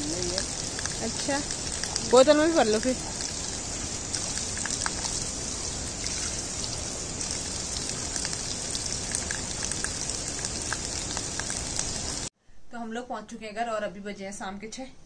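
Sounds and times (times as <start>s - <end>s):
water drips and splashes: 0.0s - 12.3s
water pouring from spout: 0.0s - 12.3s.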